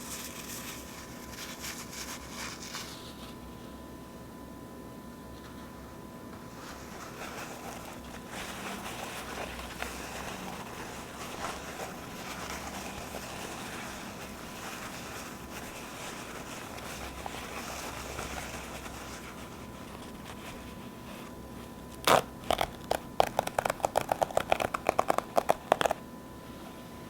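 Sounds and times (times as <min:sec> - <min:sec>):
paper towels rustling and tearing: 0:00.0 - 0:03.6, 0:05.4 - 0:27.0.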